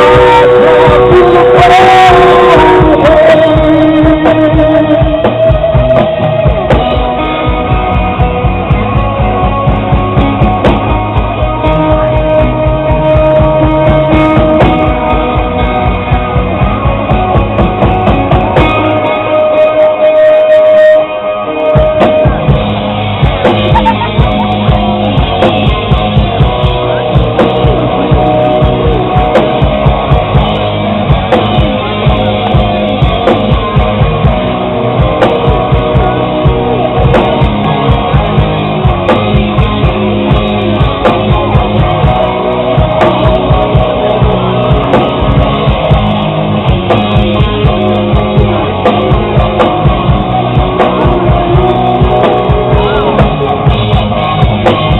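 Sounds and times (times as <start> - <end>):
drum kit beat: 0.0 - 21.0, 21.6 - 54.9
bass guitar: 0.0 - 54.9
electric guitar: 0.0 - 54.9
person singing: 0.0 - 54.9.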